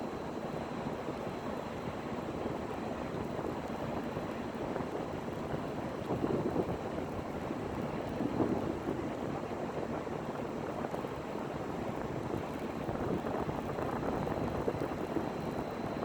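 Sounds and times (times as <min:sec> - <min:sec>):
wind blowing across microphone: 0:00.9 - 0:16.0.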